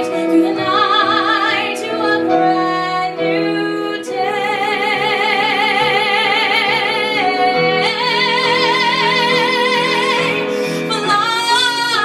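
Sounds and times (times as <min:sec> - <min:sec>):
instrumental accompaniment: 0:00.0 - 0:12.0
woman singing with vibrato: 0:00.0 - 0:12.0.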